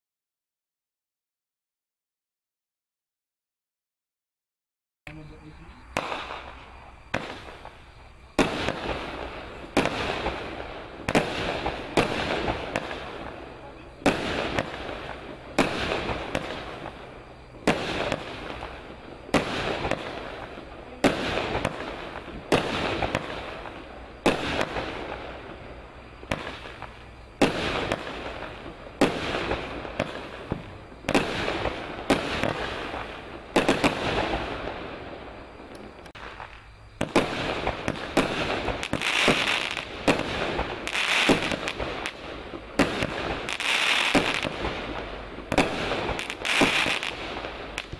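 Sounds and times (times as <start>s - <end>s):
firework hiss and crackle: 5.1s - 47.9s
firework bangs: 5.2s - 47.9s.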